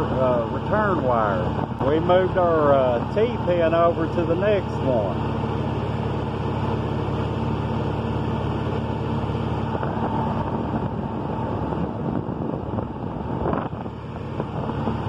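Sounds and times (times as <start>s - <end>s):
electric fans running: 0.0s - 15.0s
van engine idling: 0.0s - 15.0s.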